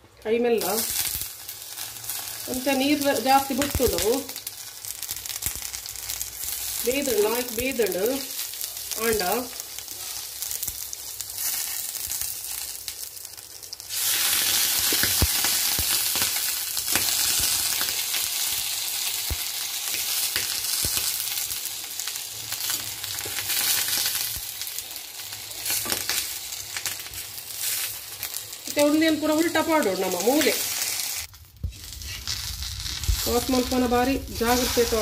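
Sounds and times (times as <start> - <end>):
fish sizzling in a pan: 0.6 - 35.0.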